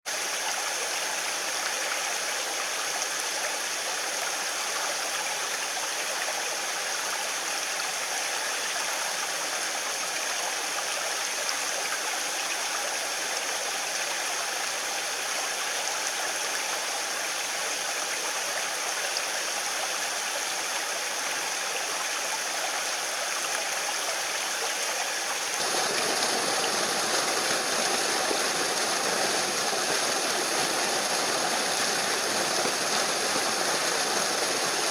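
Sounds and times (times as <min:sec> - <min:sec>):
mountain stream rushing over rocks: 0:00.1 - 0:34.9.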